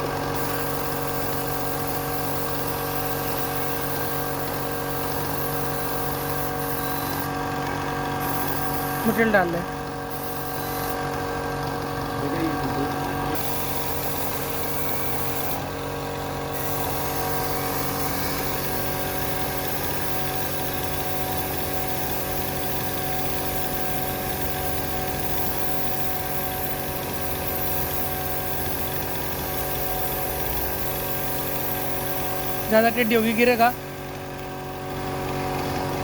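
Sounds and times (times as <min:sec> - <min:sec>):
electric spray gun hissing: 0:00.0 - 0:36.0.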